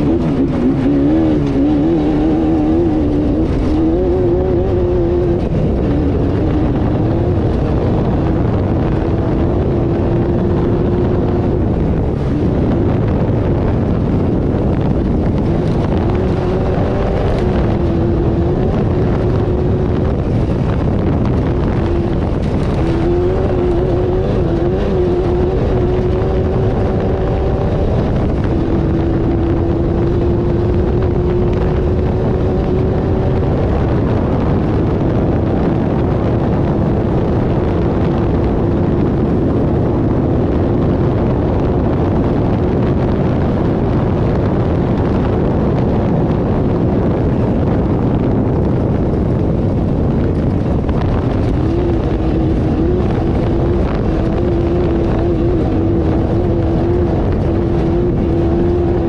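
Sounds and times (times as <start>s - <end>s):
dense rumble: 0.0s - 59.0s
race car engine running hard: 0.0s - 59.0s.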